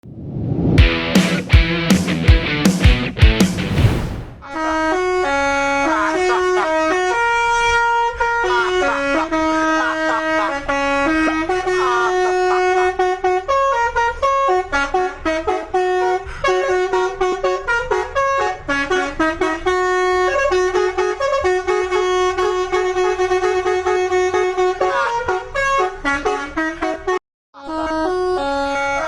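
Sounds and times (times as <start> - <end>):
air horns tooting a melody: 4.4 - 29.0.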